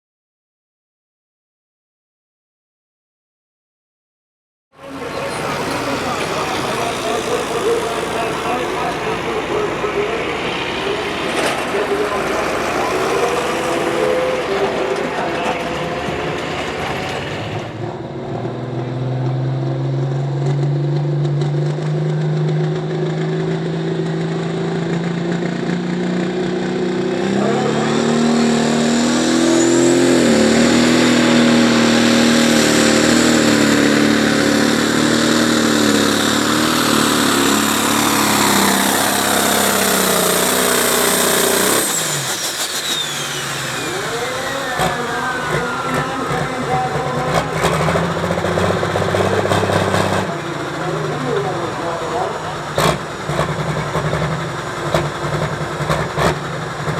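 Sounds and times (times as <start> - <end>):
tractor engine under full load: 4.8 - 56.9.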